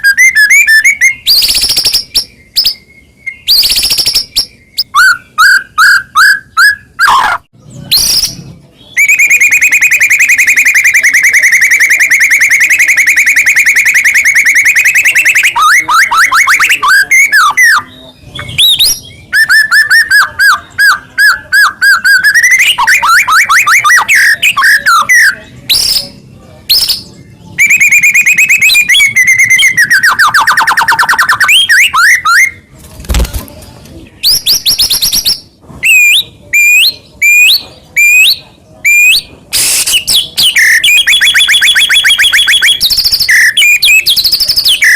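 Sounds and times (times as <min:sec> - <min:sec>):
bird singing with rattling trills: 0:00.0 - 0:32.6, 0:40.0 - 0:44.9.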